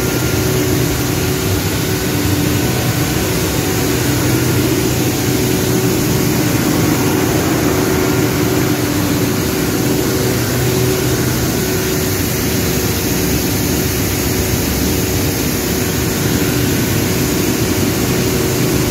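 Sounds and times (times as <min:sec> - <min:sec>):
air compressor running: 0:00.0 - 0:18.9.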